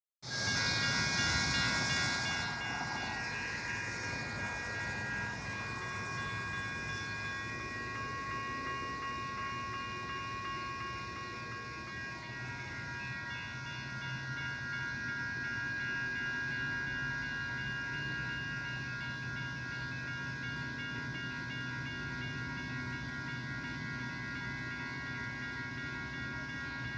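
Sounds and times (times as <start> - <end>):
low train rumble: 0.2 - 26.9
railroad crossing bells ringing: 0.2 - 26.9.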